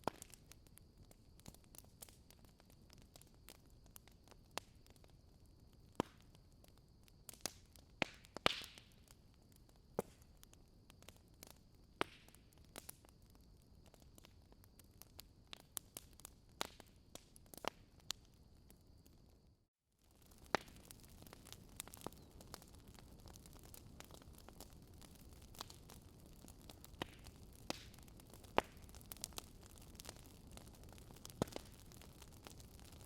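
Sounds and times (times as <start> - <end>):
wood fire crackling: 0.0 - 19.3, 20.0 - 33.0.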